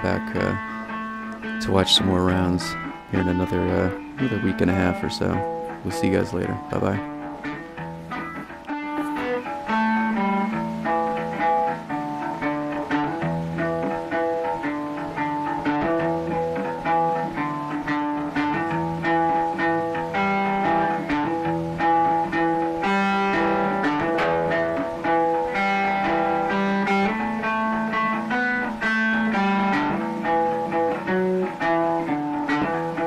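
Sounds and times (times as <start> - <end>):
plucked string instrumental music: 0.0 - 33.0.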